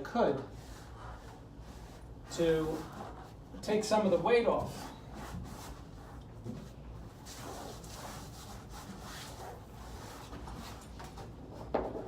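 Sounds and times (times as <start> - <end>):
wallpaper rubbing and rustling: 0.2 - 12.0.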